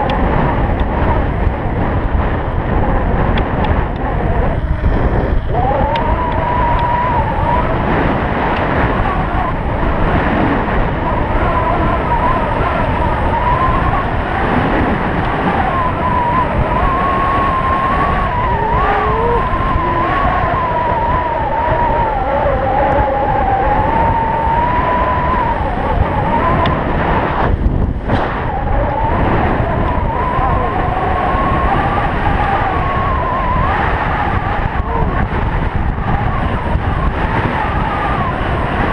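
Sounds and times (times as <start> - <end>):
electric bike whine: 0.0 - 38.9
wind rushing on microphone: 0.0 - 38.9.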